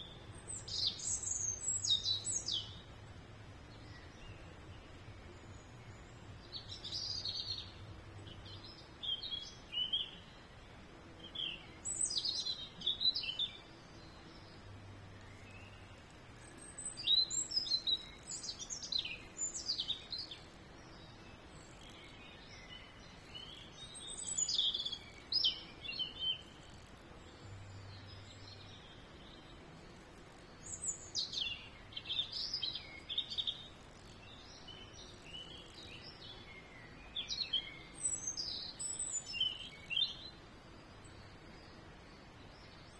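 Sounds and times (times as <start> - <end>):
faint background hiss: 0.0 - 42.9
songbird chirping: 0.0 - 42.9.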